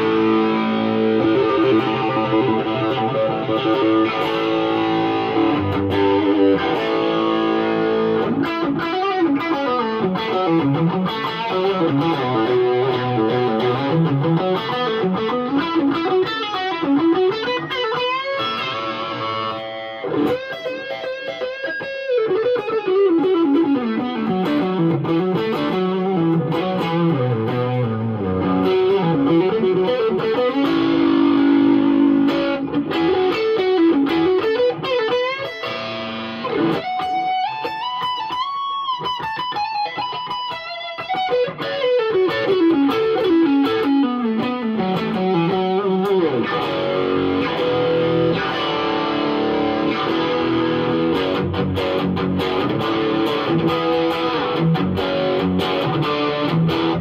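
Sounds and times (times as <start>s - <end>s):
overdriven electric guitar lead: 0.0s - 57.0s.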